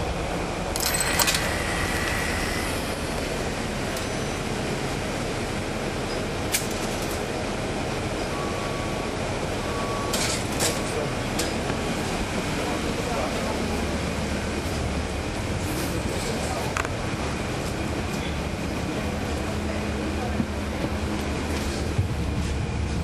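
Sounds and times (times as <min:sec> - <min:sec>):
bus diesel engine rumble: 0:00.0 - 0:23.0.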